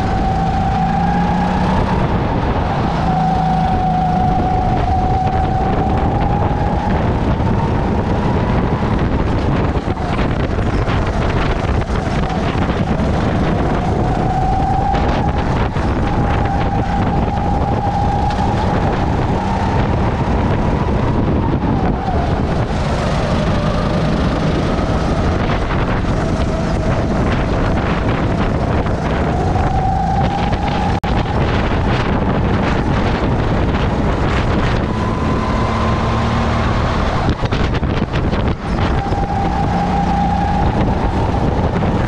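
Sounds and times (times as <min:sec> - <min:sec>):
kart engine at speed: 0:00.0 - 0:42.0
wind noise on microphone: 0:00.0 - 0:42.0.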